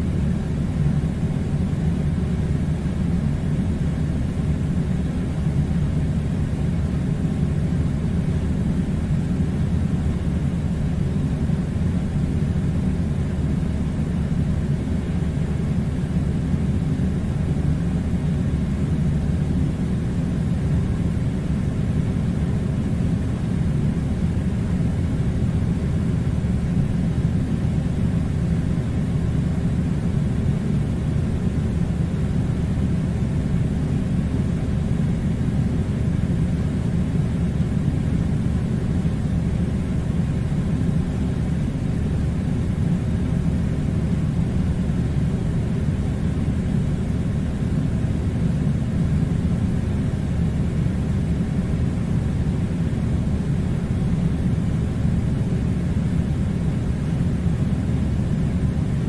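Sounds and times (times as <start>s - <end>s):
air conditioner rumbling: 0.0s - 59.0s.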